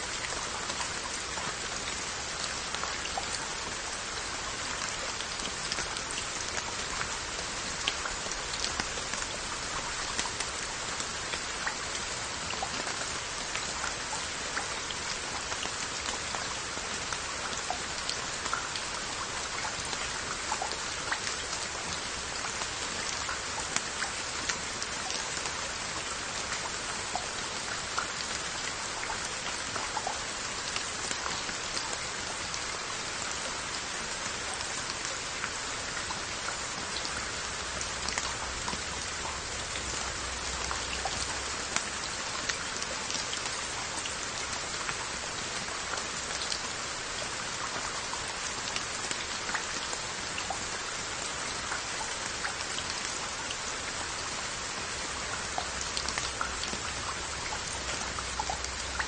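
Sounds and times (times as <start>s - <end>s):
rain on earthenware jars: 0.0s - 59.0s.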